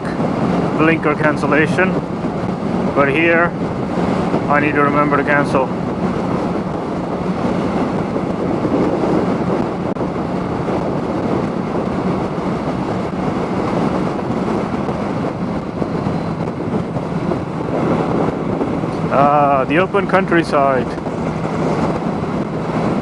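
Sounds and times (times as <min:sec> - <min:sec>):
wind rush on helmet mic: 0:00.0 - 0:23.0.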